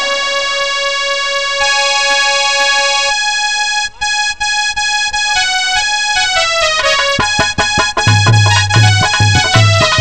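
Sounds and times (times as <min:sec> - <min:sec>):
harmonium playing slow melody: 0:00.0 - 0:10.0.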